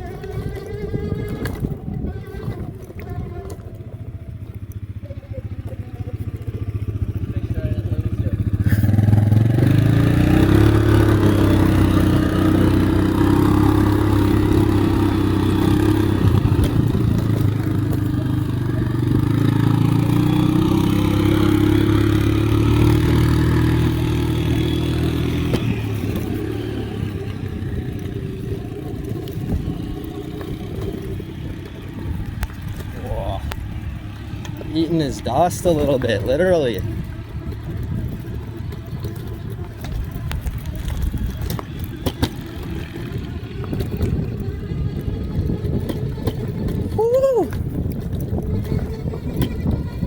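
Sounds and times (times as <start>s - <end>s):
motorbike engine revving: 0.0s - 50.0s
rattling on bumpy trail: 0.0s - 50.0s.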